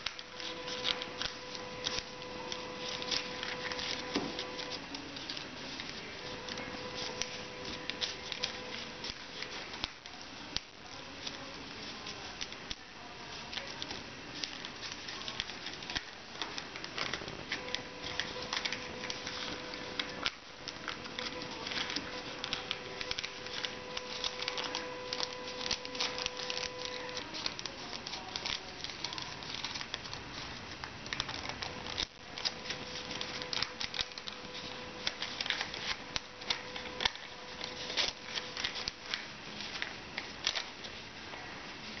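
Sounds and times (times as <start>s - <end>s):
paper rustling and crinkling: 0.0s - 42.0s.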